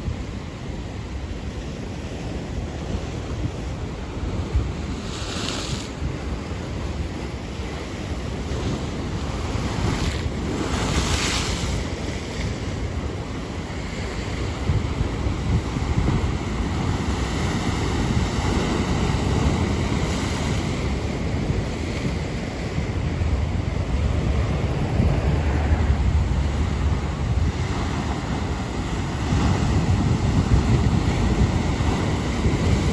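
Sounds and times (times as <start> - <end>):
wind on microphone: 0.0 - 32.9
ocean surf breaking: 4.9 - 32.9.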